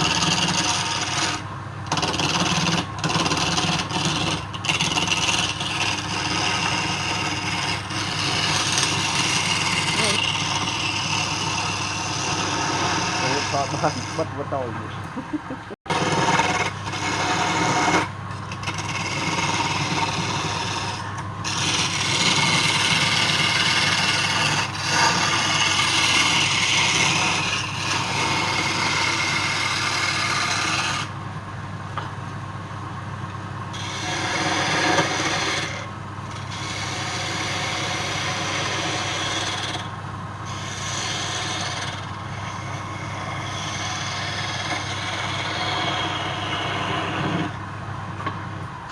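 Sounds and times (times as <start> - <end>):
wood lathe motor hum: 0.0 - 14.7, 15.6 - 31.2, 33.7 - 47.6
tool scraping spinning wood: 0.0 - 31.2, 33.7 - 47.6.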